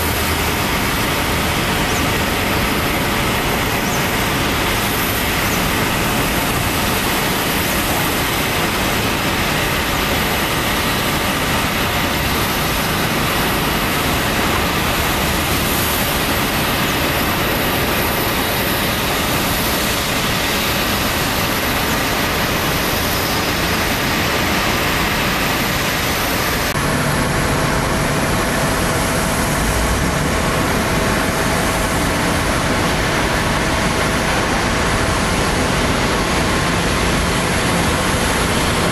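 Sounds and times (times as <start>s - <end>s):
jet engine rumble and hiss: 0.0s - 38.9s.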